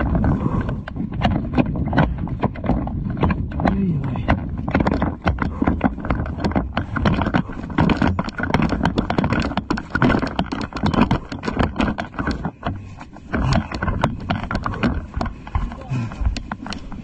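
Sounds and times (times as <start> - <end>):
gear rattling and brushing: 0.0 - 17.0.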